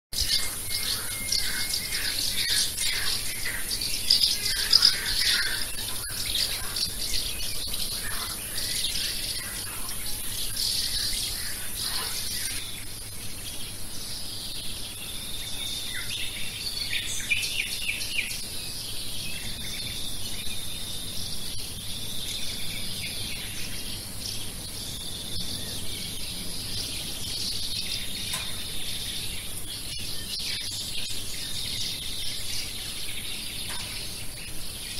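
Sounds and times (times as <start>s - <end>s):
birds chirping: 0.1s - 34.9s
high insect drone: 0.2s - 34.9s.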